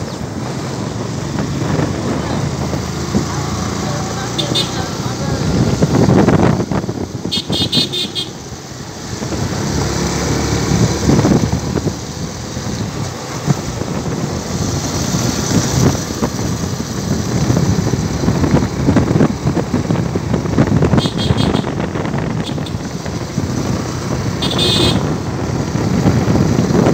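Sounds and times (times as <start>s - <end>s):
wind buffeting microphone: 0.0s - 4.3s, 4.9s - 26.9s
motorcycle running: 0.0s - 26.9s.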